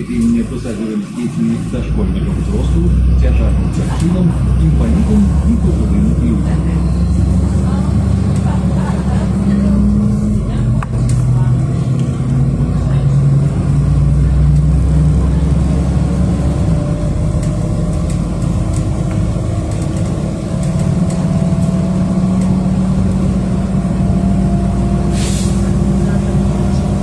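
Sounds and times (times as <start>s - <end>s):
bus engine running: 0.0s - 27.0s
faint drivetrain whine: 0.0s - 27.0s.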